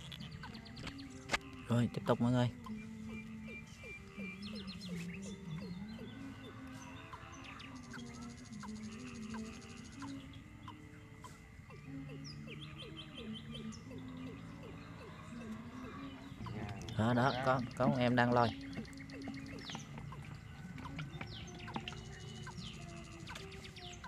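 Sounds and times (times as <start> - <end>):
birds chirping: 0.0 - 24.0
high-pitched bird trill: 0.0 - 24.0.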